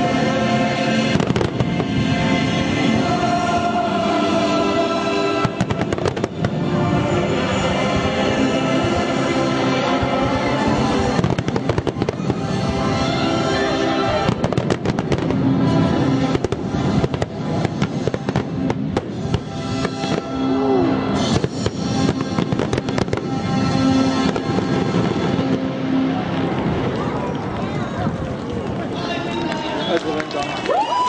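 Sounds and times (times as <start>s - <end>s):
music playing: 0.0s - 31.0s
fireworks bangs and crackles: 0.9s - 3.1s, 5.2s - 30.5s.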